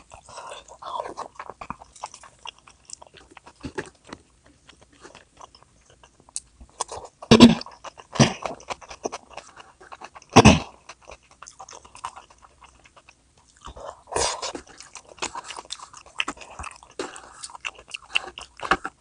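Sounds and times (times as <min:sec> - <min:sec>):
person chewing and biting: 0:00.0 - 0:19.0.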